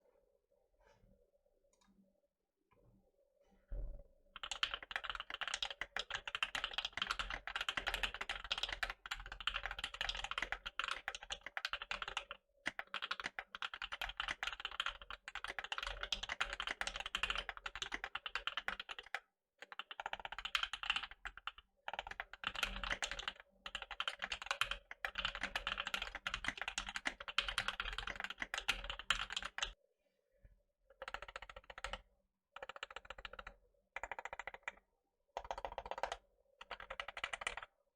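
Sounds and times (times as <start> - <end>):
fast mechanical keyboard typing: 4.4 - 29.8, 30.9 - 32.0, 32.6 - 34.8, 35.4 - 37.8.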